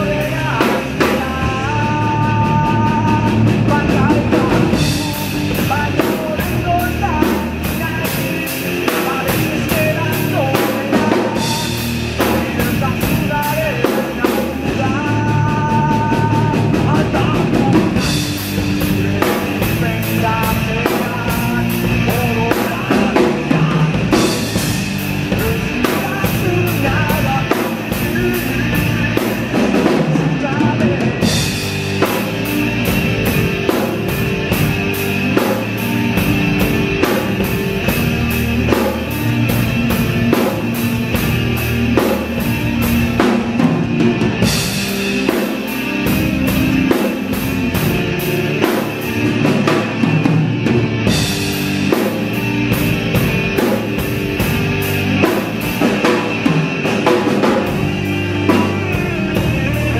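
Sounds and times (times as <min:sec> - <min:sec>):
guitar: 0:00.0 - 0:59.9
person singing: 0:00.0 - 0:59.9
rock drum kit: 0:00.0 - 0:59.9.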